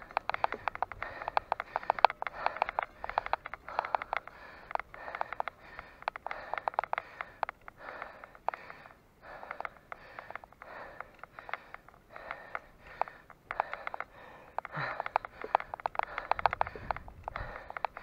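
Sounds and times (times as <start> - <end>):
person breathing hard: 0.0 - 18.0
small clicks: 0.0 - 18.0.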